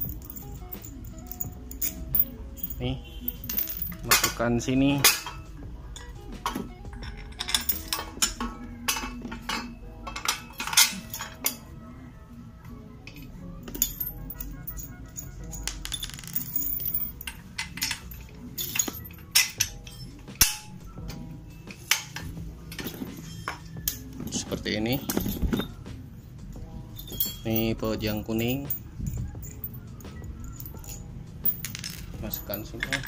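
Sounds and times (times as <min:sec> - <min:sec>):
metal parts clinking: 0:00.0 - 0:11.7, 0:13.0 - 0:25.9, 0:26.8 - 0:33.0
background music: 0:00.0 - 0:33.0.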